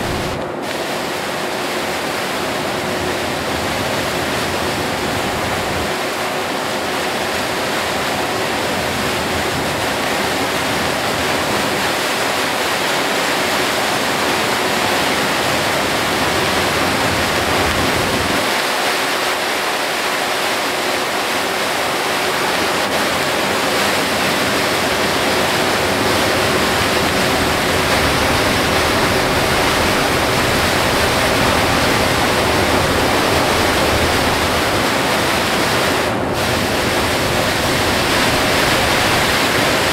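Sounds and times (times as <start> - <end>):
heavy rain on a bus: 0.0 - 39.9
tyre spray on flooded road: 0.0 - 39.9.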